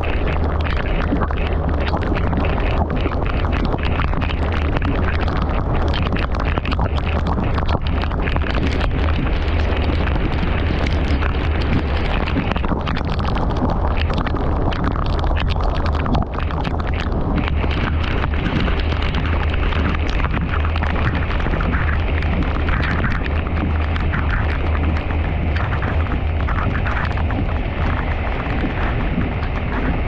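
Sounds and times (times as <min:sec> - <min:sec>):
heavy rain on a car: 0:00.0 - 0:30.0.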